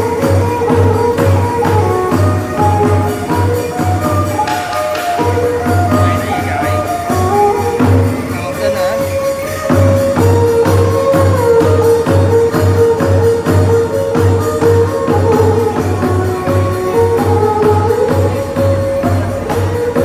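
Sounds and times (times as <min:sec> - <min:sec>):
sliding melody line: 0:00.0 - 0:19.6
drum beating: 0:00.0 - 0:20.0
sharp percussion strokes: 0:00.0 - 0:20.0.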